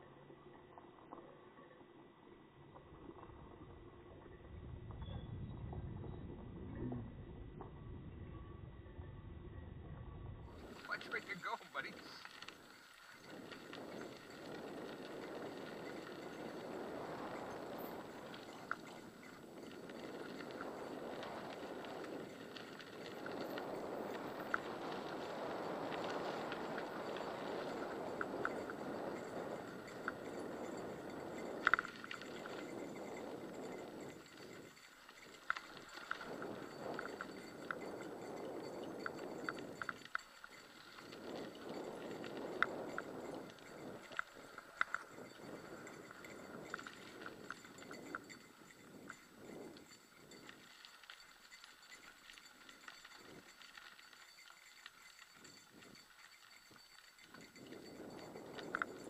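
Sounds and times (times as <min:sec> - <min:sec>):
bike tyres rolling on dirt: 0:10.4 - 0:59.0.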